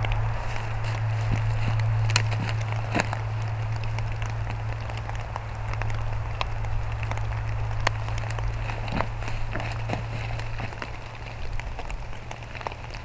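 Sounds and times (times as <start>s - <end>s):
freezing rain on dry leaves: 0.0s - 13.0s
steady low hum: 0.0s - 13.0s.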